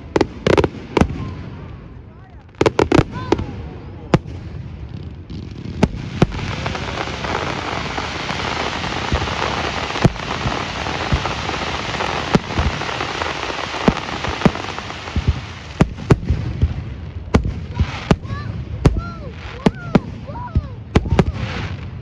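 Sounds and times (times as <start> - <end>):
fireworks crackling hiss: 0.0 - 1.8, 2.4 - 22.0
fireworks bangs: 0.0 - 22.0.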